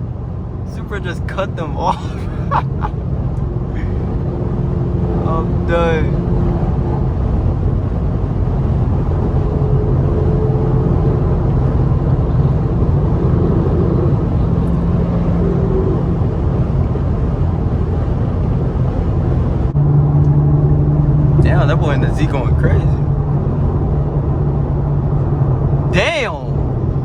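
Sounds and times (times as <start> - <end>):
car engine and road drone: 0.0 - 27.0.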